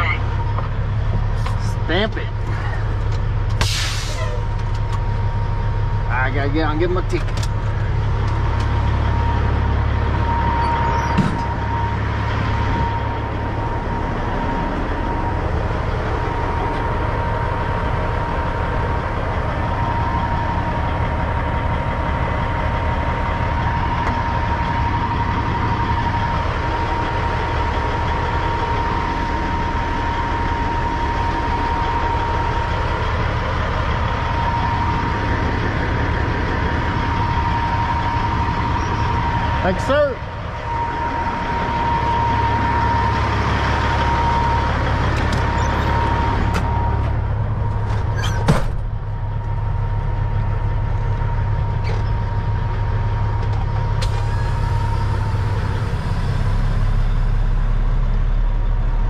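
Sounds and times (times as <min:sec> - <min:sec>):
diesel truck engine rumbling: 0:00.0 - 0:59.0.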